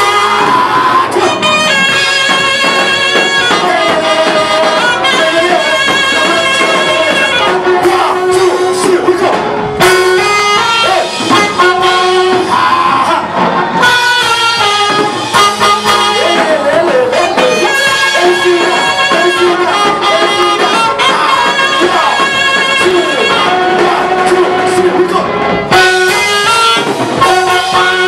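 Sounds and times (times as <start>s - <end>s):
praise music with singing: 0.0s - 28.0s.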